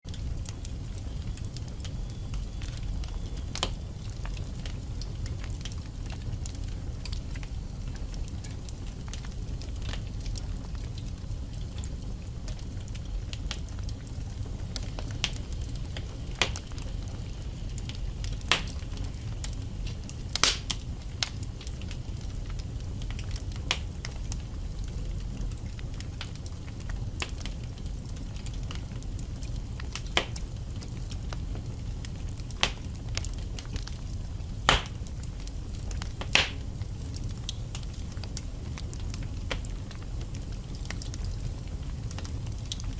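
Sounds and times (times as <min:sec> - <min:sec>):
logs crackling and popping: 0:00.1 - 0:42.9
low rumble of flames: 0:00.1 - 0:42.9.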